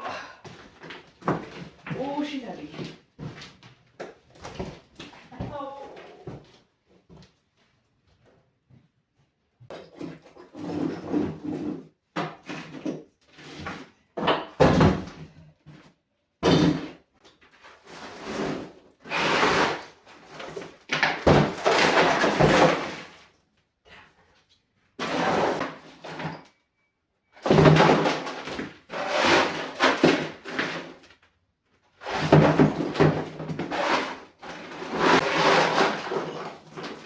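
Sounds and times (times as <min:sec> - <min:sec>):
floorboards scraping and knocking: 0:00.5 - 0:07.3, 0:09.6 - 0:23.3, 0:25.0 - 0:26.4, 0:27.4 - 0:31.1, 0:32.0 - 0:37.0.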